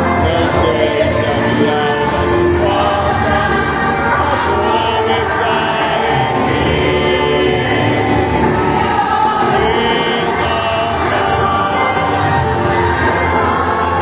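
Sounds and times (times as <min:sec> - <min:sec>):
group singing worship song: 0:00.0 - 0:14.0
instrumental accompaniment: 0:00.0 - 0:14.0.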